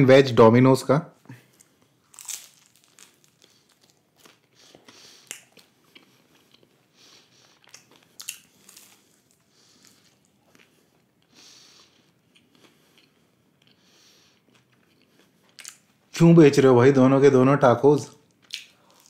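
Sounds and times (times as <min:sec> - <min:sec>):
person chewing crunchy food: 0:01.4 - 0:16.0, 0:18.2 - 0:19.0.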